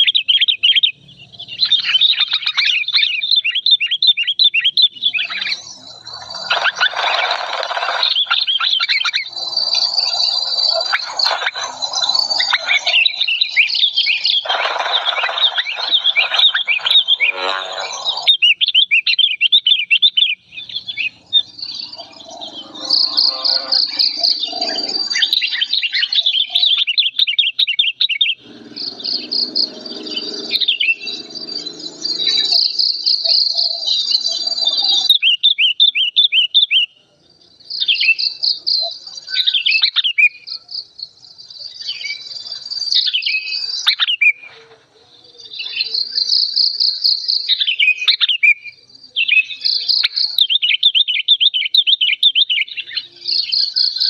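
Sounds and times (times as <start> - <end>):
bulbul chattering calls: 0.0 - 54.0.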